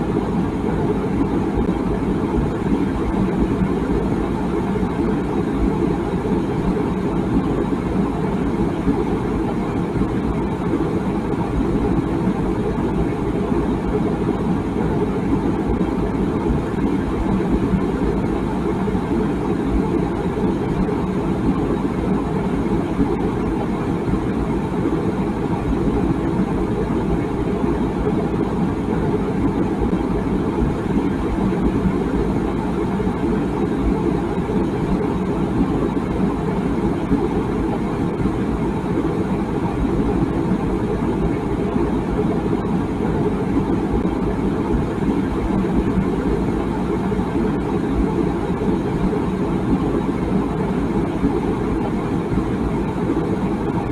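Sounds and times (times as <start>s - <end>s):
water boiling in a kettle: 0.0s - 53.9s.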